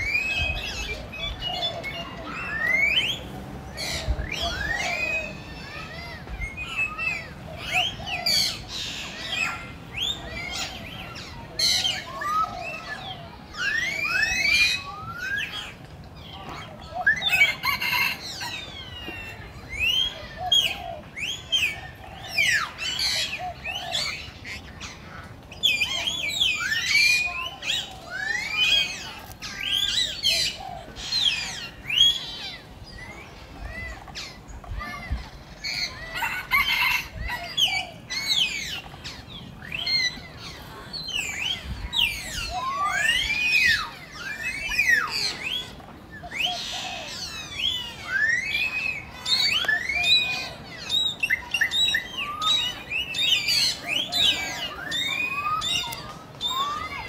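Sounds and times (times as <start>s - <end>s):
high chirping calls: 0.0s - 57.0s.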